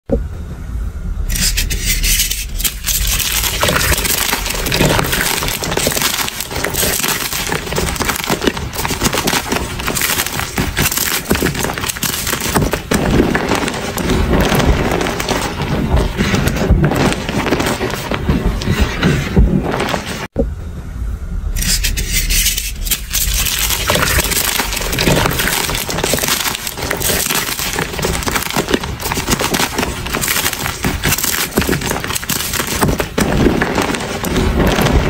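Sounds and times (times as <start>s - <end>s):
chalk crunching and crumbling: 1.3s - 20.3s, 21.6s - 35.0s.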